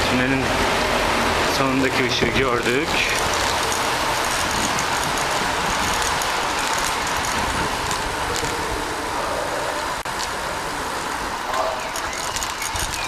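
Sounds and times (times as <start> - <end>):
rushing wind: 0.0 - 13.0
bicycle tyre noise: 0.6 - 13.0.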